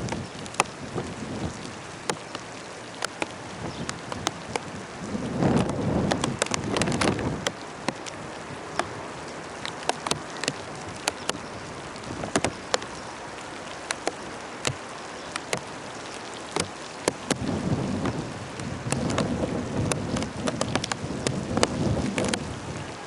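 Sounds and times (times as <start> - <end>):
large raindrops tapping: 0.0 - 23.0
steady rain falling: 0.0 - 23.0.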